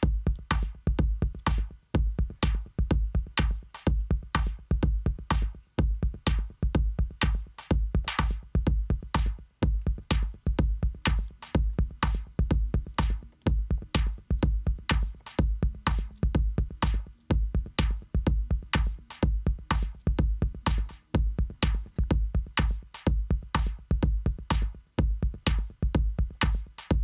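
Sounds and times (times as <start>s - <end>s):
electronic drum loop: 0.0s - 27.0s.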